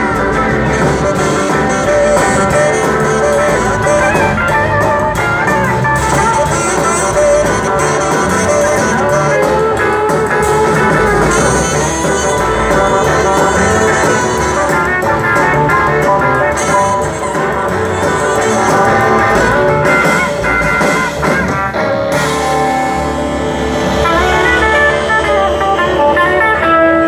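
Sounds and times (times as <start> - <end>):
electric guitar: 0.0 - 27.0
live band playing: 0.0 - 27.0.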